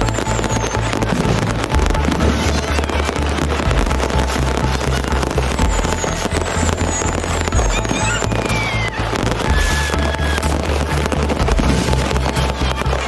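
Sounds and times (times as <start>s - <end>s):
fireworks crackling and banging: 0.0s - 13.0s
fireworks falling whistles: 0.0s - 13.0s
music with bass line: 0.0s - 13.0s.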